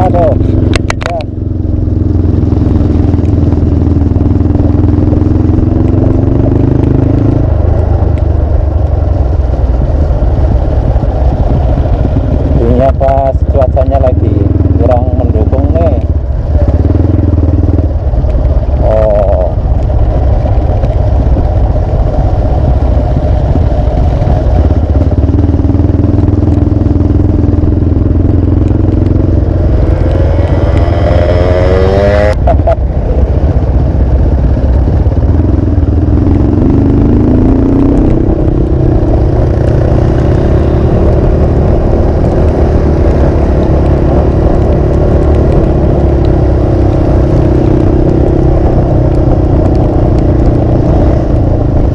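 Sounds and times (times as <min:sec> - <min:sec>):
motorcycle engine rumbling: 0:00.0 - 0:51.9.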